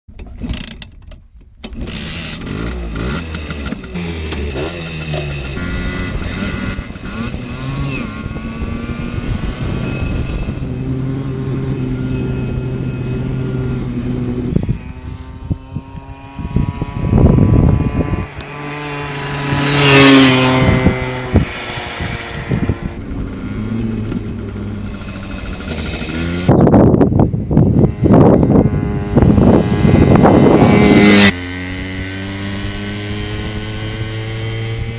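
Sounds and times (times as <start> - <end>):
moped engine running and revving: 1.8 - 34.9.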